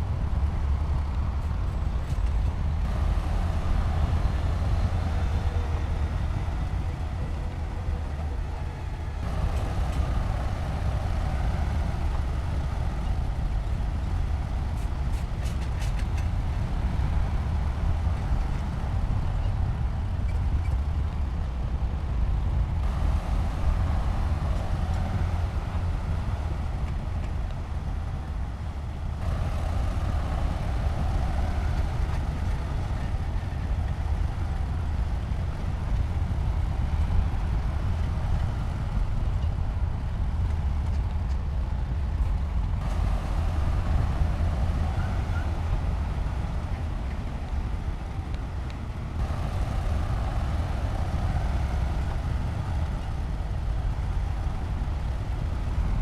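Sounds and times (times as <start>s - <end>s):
diesel construction machinery rumbling: 0.0s - 56.0s.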